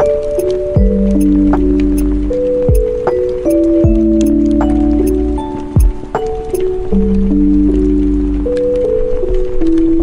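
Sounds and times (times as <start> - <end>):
slow held music notes: 0.0 - 9.6.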